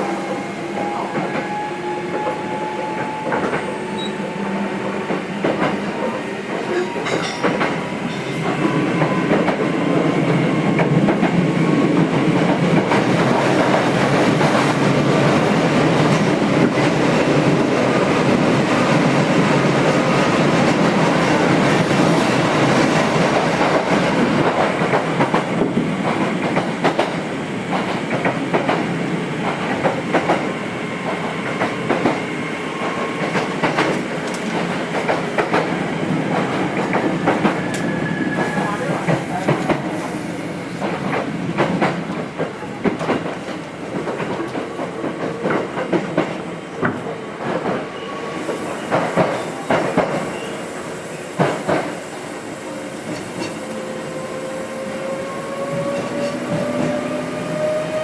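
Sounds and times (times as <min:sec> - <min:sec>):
train wheels rumbling and clicking: 0:00.3 - 0:58.0.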